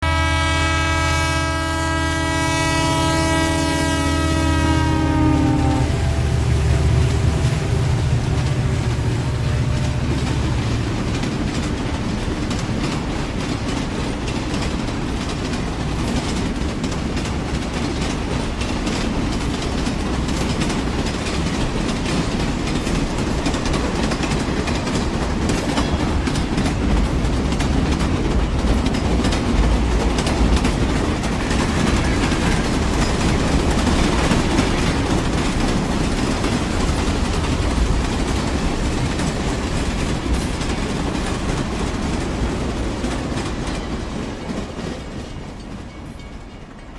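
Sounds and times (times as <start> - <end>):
train rumbling on track: 0.0 - 46.9
wheels clattering over rail joints: 6.1 - 46.9.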